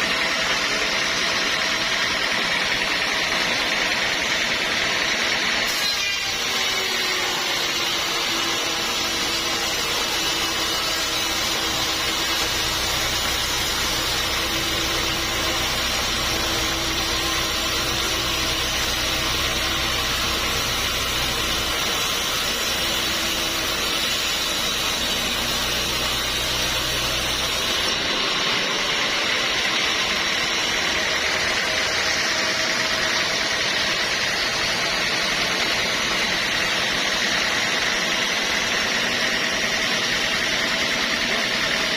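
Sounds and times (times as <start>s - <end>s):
sawmill machinery humming: 0.0s - 41.9s.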